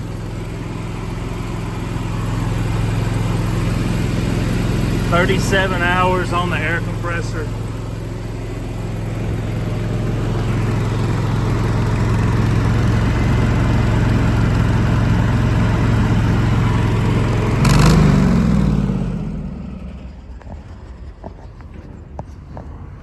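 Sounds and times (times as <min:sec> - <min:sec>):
air compressor running: 0:00.0 - 0:21.4.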